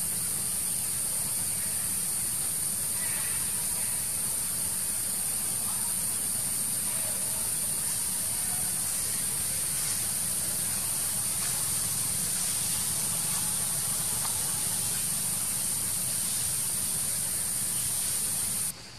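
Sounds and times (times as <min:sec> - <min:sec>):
high-pitched hiss: 0:00.0 - 0:18.9.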